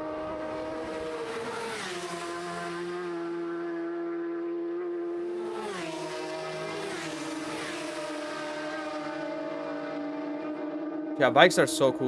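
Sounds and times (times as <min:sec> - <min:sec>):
racing motorcycle engine revving: 0:00.0 - 0:12.0.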